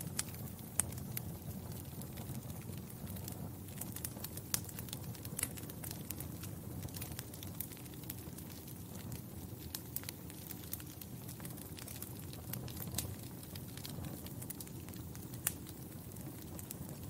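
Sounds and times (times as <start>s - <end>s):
fire rumbling: 0.0s - 17.0s
wood fire popping and snapping: 0.0s - 17.0s.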